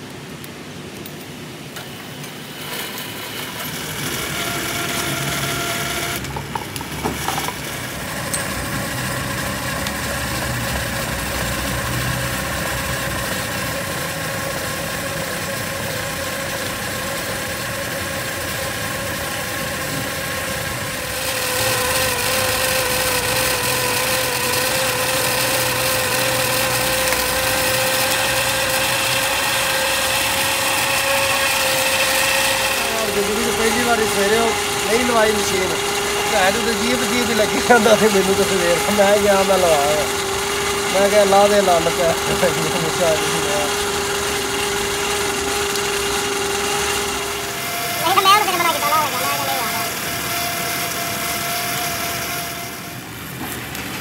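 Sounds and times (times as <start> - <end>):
workshop machine whining: 0.0 - 54.0.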